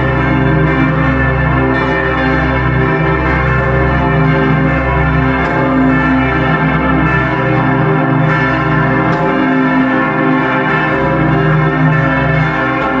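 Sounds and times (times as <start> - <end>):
church bells pealing: 0.0 - 13.0.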